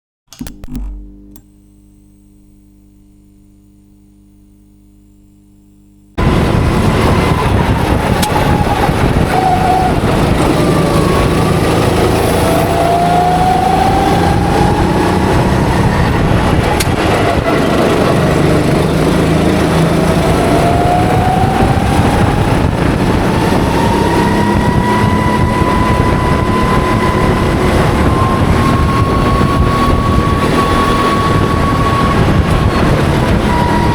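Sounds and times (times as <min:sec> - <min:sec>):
low hum: 0:00.3 - 0:33.9
go-kart engine revving: 0:06.2 - 0:33.9
heavy wind noise: 0:06.2 - 0:33.9.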